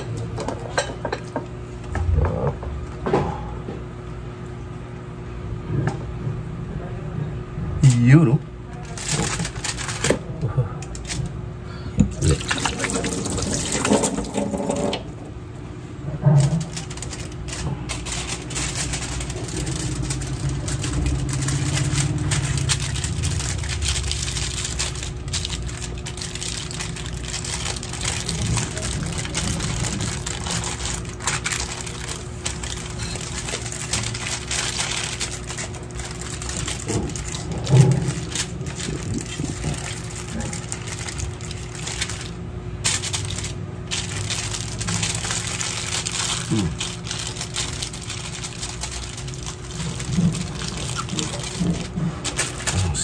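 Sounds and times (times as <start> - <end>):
aluminium foil crinkling: 7.8 - 15.3, 16.4 - 53.0.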